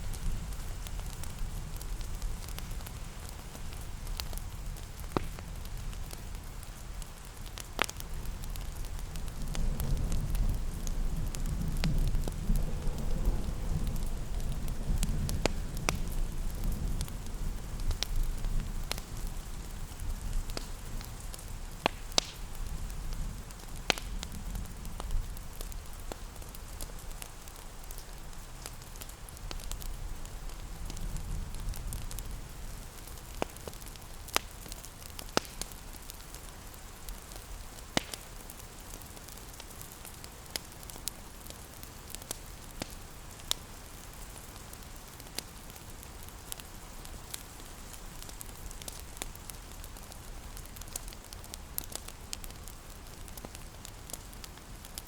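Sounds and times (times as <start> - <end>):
fireplace crackling and popping: 0.0 - 55.0
hiss of rain: 0.0 - 55.0.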